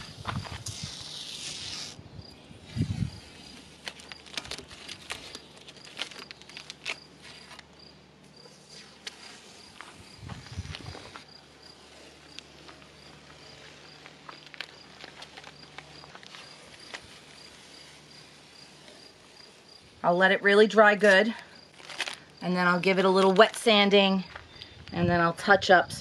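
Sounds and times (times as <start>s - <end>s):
painter's tape peeling: 0.0s - 23.9s
faint insect chirp: 0.0s - 26.0s.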